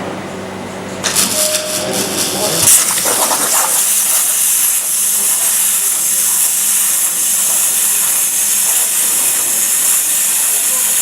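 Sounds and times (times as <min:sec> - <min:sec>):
plasma torch cutting metal: 0:01.0 - 0:11.0.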